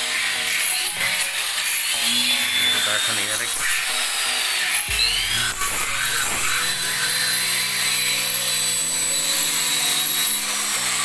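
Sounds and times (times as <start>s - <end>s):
electric drill boring through metal: 0.0s - 11.0s.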